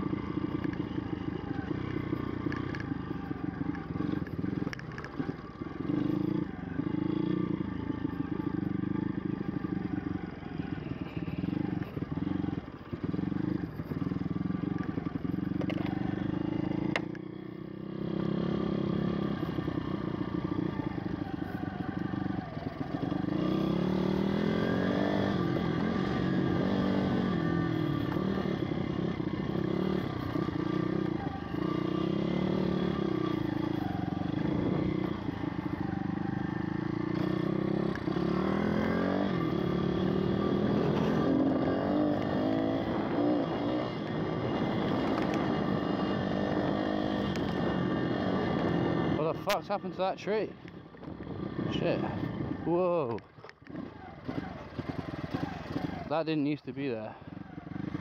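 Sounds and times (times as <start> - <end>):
motorbike engine revving: 0.0 - 56.4, 57.0 - 58.0.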